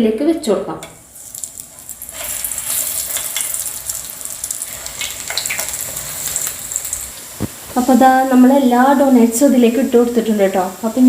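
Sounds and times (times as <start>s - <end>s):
oil sizzling and crackling: 0.9s - 11.0s.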